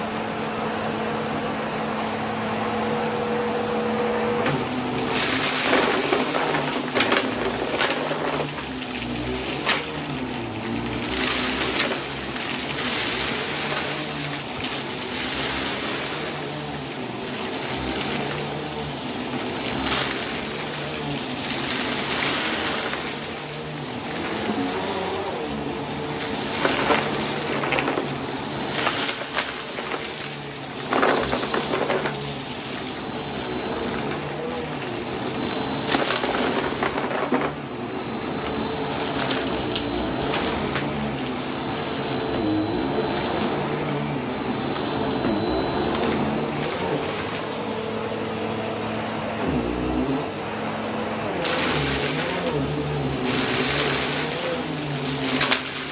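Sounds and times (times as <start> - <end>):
vacuum cleaner whine: 0.0 - 55.9
debris crunching and rattling: 4.4 - 47.9, 49.4 - 55.9.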